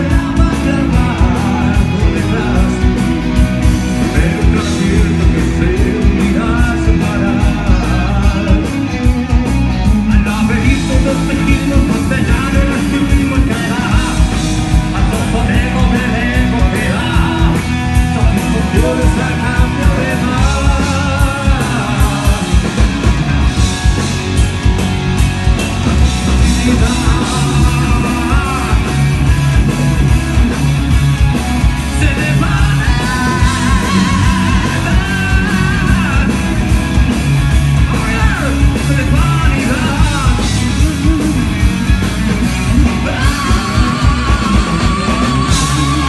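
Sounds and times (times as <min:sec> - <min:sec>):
man singing: 0:00.0 - 0:22.9, 0:26.2 - 0:29.6, 0:31.9 - 0:36.6, 0:37.9 - 0:41.9, 0:42.6 - 0:46.0
rock band playing loud: 0:00.0 - 0:46.0.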